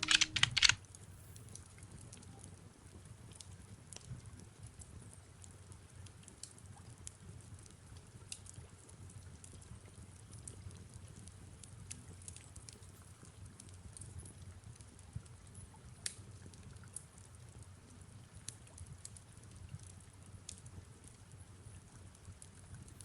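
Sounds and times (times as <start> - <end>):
soft rain: 0.0 - 23.0.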